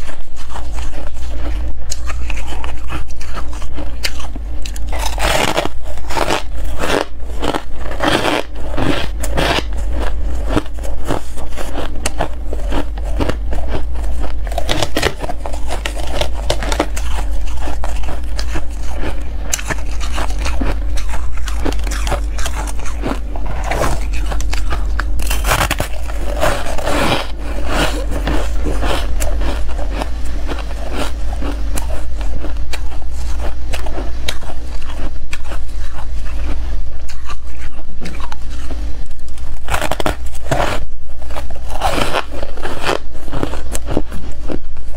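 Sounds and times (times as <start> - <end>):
ice being chewed: 0.0 - 44.9
steady low hum: 0.0 - 44.9.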